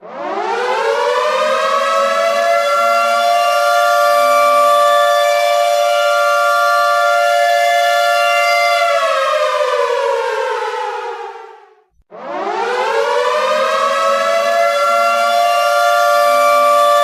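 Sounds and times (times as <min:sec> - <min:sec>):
air raid siren wailing: 0:00.0 - 0:17.0.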